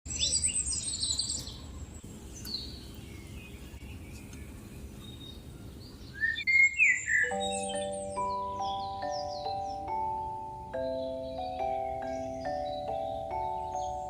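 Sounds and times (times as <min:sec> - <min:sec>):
birds chirping: 0:00.1 - 0:14.0.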